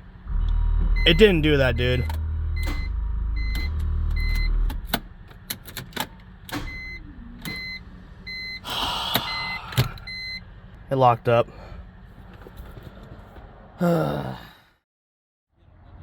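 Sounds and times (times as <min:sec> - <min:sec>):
car engine drone: 0:00.0 - 0:14.2.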